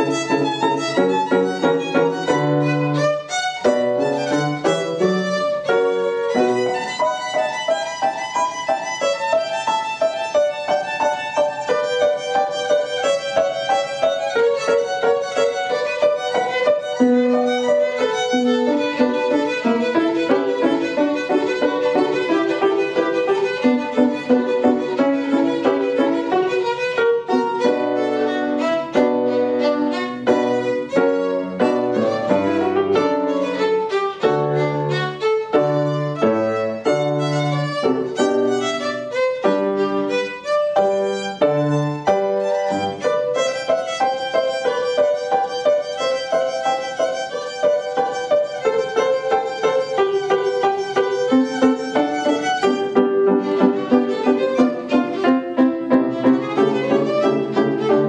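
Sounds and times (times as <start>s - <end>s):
piano accompaniment: 0.0s - 58.0s
violin playing classical piece: 0.0s - 58.0s.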